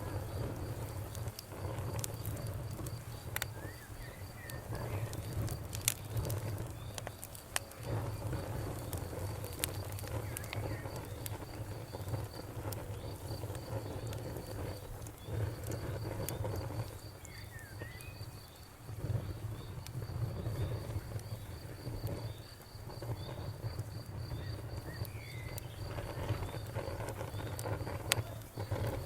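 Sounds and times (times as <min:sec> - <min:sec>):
crackling bonfire: 0:00.0 - 0:29.0
crickets chirping: 0:00.0 - 0:29.0.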